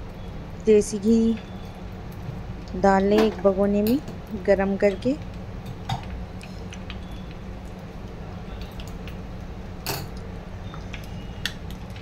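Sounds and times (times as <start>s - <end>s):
ghee crackling in pot: 0.0s - 12.0s
steady low hum: 0.0s - 12.0s.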